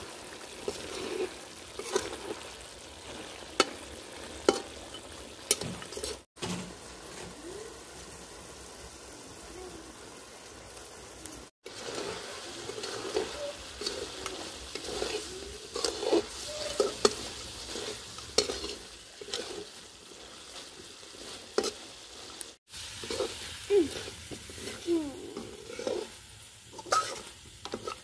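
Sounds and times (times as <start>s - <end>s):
curry sizzling in a pan: 0.0s - 28.0s
metal spatula scraping pan: 0.6s - 7.3s, 11.7s - 22.4s, 23.0s - 28.0s.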